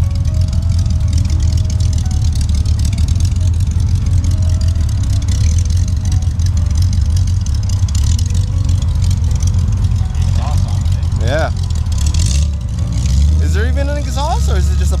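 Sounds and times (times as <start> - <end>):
engine idling low rumble: 0.0 - 15.0.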